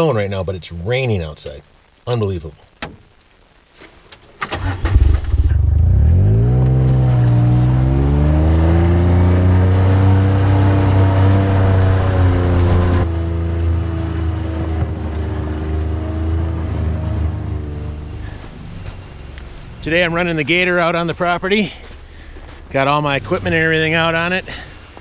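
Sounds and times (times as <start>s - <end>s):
utility vehicle engine running: 4.6s - 25.0s.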